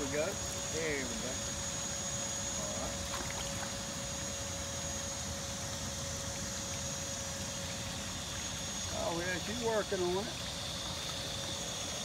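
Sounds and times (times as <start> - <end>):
pond vacuum motor whining: 0.0 - 12.0.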